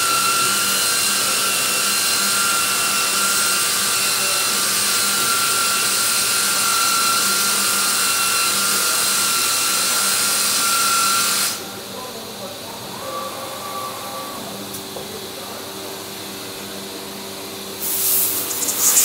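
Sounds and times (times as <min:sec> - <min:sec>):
cnc router hiss and spindle whine: 0:00.0 - 0:19.0.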